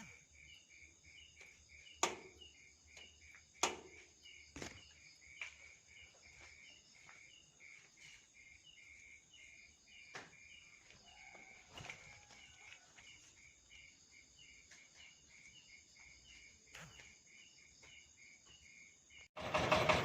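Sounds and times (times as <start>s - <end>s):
crickets chirping: 0.0s - 19.3s.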